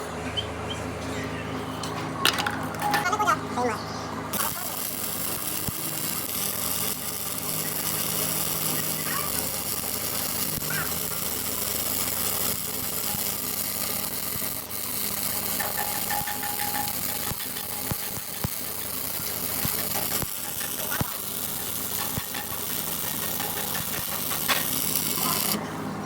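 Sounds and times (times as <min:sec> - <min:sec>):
welding arc crackling: 0:04.3 - 0:25.6
welding arc pops: 0:04.3 - 0:25.6.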